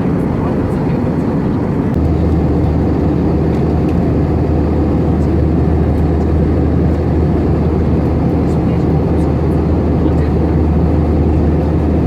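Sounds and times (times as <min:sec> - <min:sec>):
airflow and engine rush: 0:00.0 - 0:12.0
constant low hum: 0:00.0 - 0:12.0.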